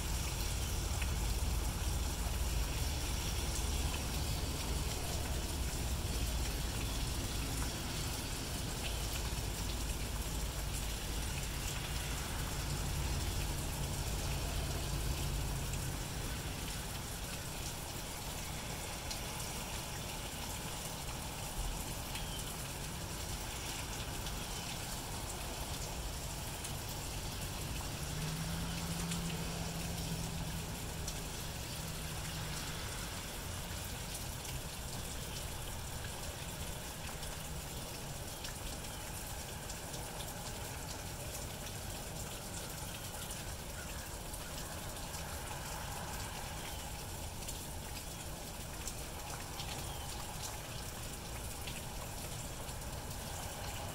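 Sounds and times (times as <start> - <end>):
light rain on grass and pavement: 0.0 - 53.9.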